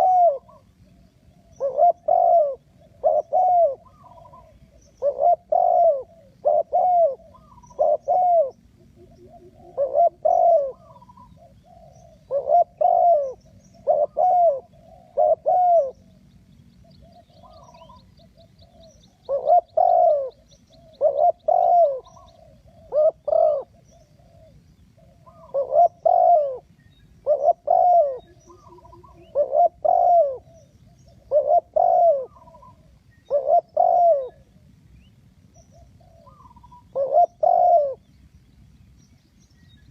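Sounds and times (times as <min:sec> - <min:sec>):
high bird trill: 0:00.0 - 0:34.5, 0:35.4 - 0:38.0
dove cooing: 0:00.0 - 0:34.7, 0:35.5 - 0:38.1
small birds chirping: 0:00.0 - 0:39.9.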